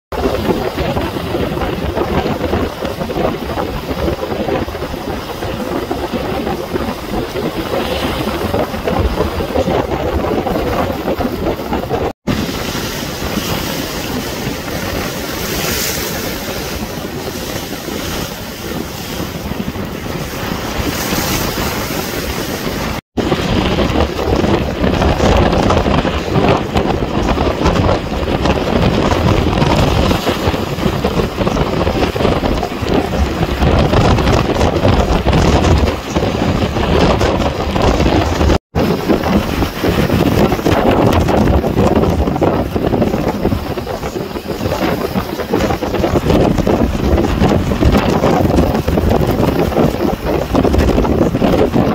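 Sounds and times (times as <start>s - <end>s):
wind buffeting microphone: 0.1s - 51.9s
waves washing over seawall: 0.2s - 51.9s.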